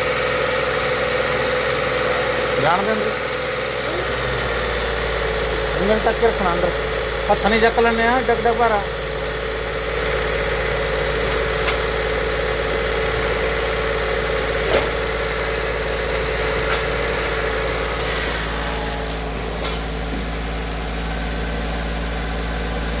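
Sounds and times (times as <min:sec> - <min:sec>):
car engine idling: 0:00.0 - 0:23.0
engine whine: 0:00.0 - 0:23.0.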